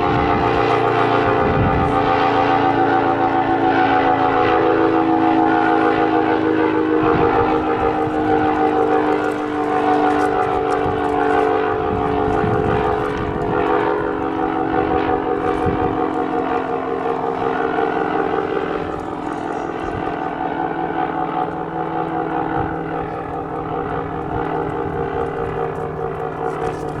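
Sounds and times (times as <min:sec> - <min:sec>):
warning siren steady tone: 0:00.0 - 0:27.0
wind buffeting microphone: 0:00.0 - 0:27.0.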